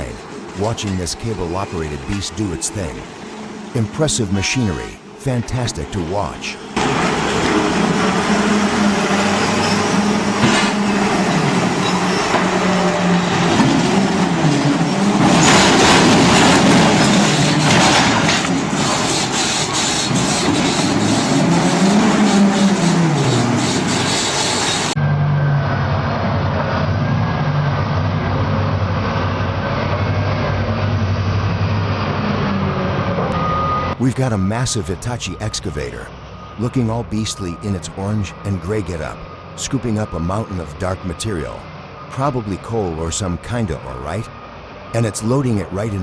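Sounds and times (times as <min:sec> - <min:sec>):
excavator engine drone: 0:00.0 - 0:46.0
rope shovel machinery drone: 0:00.0 - 0:46.0.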